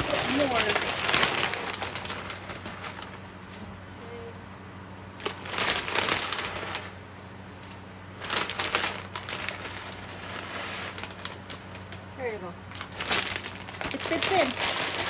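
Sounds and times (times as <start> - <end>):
dry noodles crunching in a pan: 0.0 - 3.5, 5.2 - 15.0.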